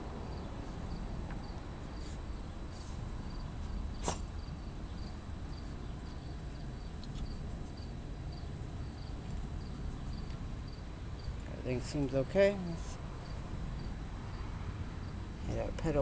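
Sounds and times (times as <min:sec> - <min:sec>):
crickets chirping: 0:00.0 - 0:15.4
low background rumble: 0:00.0 - 0:16.0.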